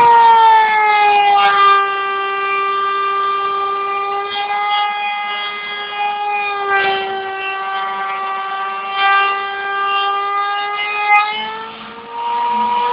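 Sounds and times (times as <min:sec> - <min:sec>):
cutting noise: 0:00.0 - 0:12.9.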